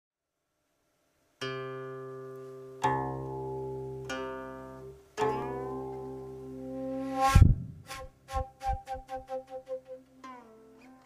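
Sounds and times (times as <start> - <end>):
zither plucked notes: 1.4 - 11.0.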